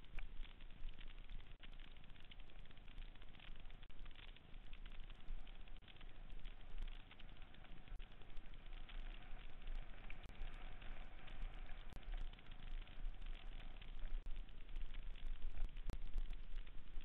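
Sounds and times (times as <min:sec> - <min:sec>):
low rumble: 0:00.0 - 0:17.0
tyres crackling over dirt: 0:00.0 - 0:17.0.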